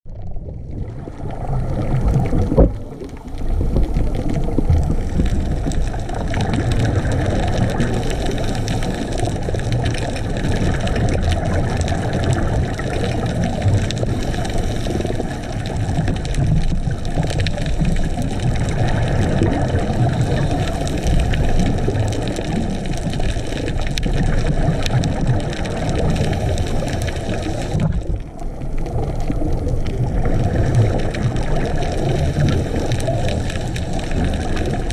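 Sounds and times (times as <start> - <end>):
muffled underwater rush of water: 0.0 - 34.9.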